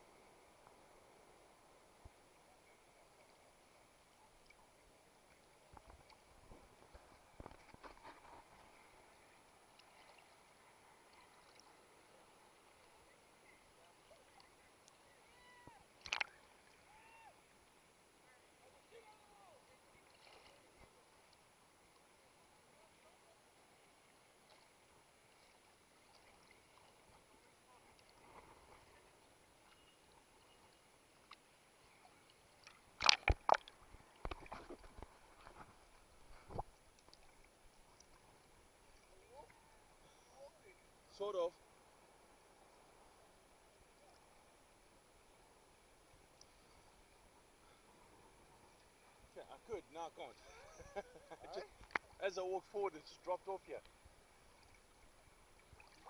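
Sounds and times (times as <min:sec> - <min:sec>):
sea water noise: 0:00.0 - 0:56.0.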